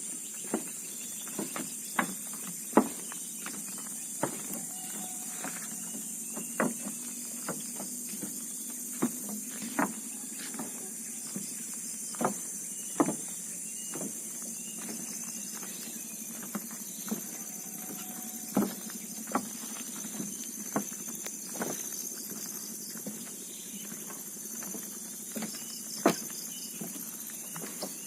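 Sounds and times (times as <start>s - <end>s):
footsteps on hard ground: 0.0s - 28.0s.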